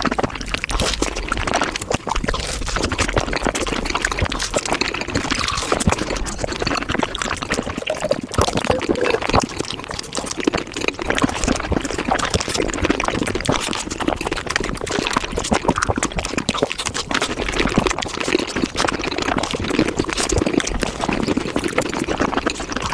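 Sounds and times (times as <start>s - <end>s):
sped-up wet chewing: 0.0s - 22.9s.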